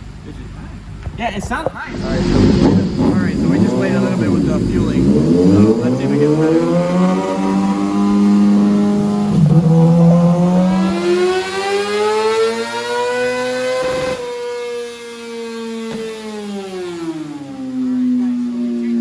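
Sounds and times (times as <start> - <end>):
motorcycle engine revving: 1.9 - 19.0.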